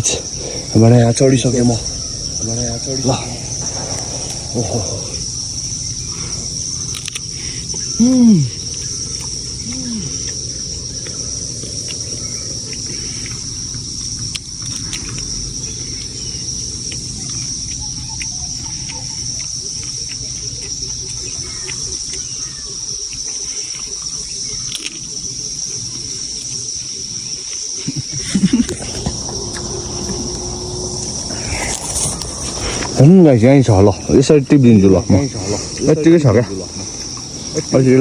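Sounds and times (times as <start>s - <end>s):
insects shrilling: 0.0s - 38.0s.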